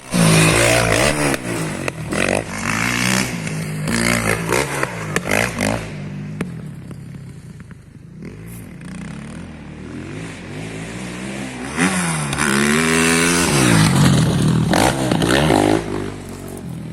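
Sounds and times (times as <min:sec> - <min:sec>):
motocross bike engine revving: 0:00.0 - 0:16.9.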